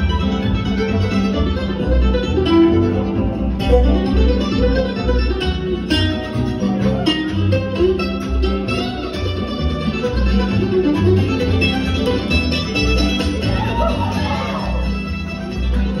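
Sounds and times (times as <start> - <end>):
fiddle: 0.0 - 16.0
guitar: 0.0 - 16.0
mandolin: 0.0 - 16.0
upright bass steady beat: 0.0 - 16.0.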